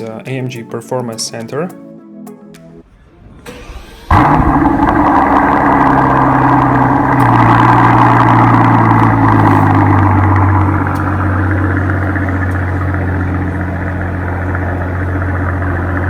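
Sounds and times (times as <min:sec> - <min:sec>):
car engine starting and idling: 0:02.8 - 0:16.0.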